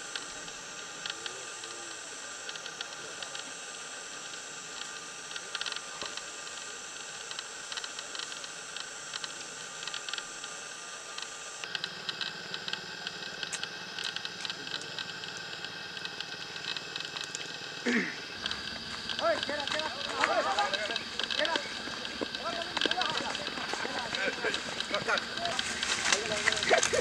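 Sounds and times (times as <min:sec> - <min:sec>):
high hiss: 0:00.0 - 0:27.0
steady high tones: 0:00.0 - 0:27.0.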